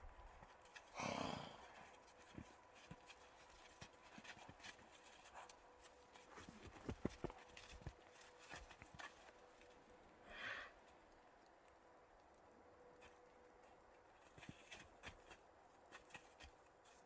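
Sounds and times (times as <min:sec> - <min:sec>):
horse hooves thudding on ground: 0:00.0 - 0:11.4, 0:12.2 - 0:17.0.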